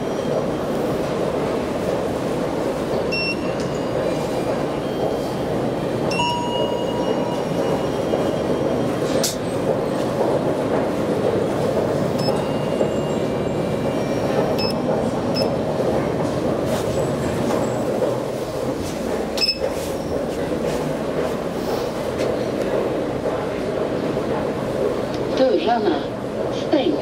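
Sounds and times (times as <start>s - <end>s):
metro station rushing noise: 0.0s - 27.0s.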